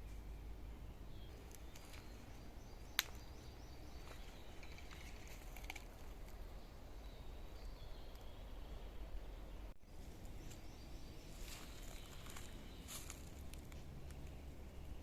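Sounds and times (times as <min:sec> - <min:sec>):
faint bird chirps: 0:01.1 - 0:13.3.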